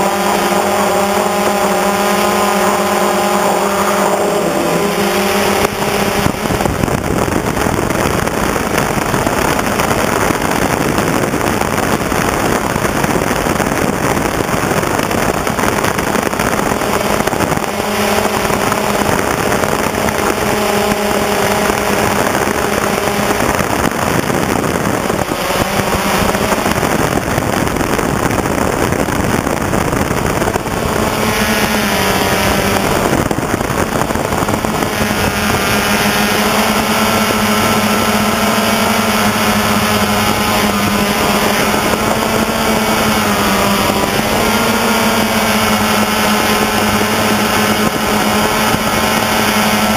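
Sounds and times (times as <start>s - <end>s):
drone propellers buzzing: 0.0s - 49.9s
heavy wind rush: 0.0s - 49.9s.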